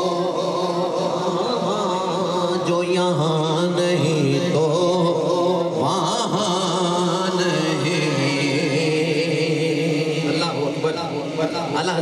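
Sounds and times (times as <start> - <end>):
man chanting devotional poetry: 0.0 - 12.0.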